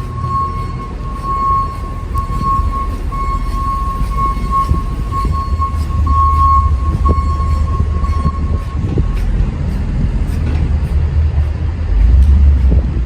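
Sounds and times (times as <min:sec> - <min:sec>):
steady high tone: 0:00.0 - 0:11.5
low traffic rumble: 0:00.0 - 0:13.0.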